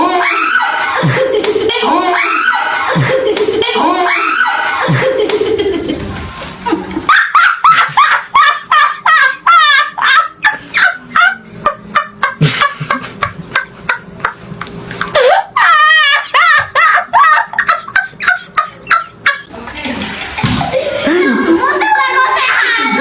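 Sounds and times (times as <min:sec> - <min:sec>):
rapid high-pitched laughs: 0:00.0 - 0:14.4, 0:15.0 - 0:19.5
people laughing hard: 0:00.0 - 0:23.0.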